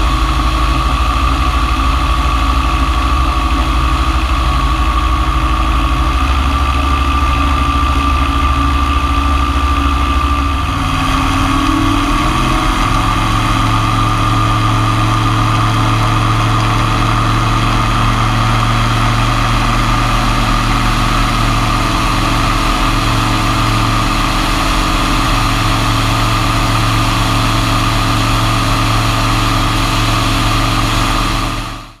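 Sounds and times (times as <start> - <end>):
plane engine and propeller droning: 0.0 - 32.0.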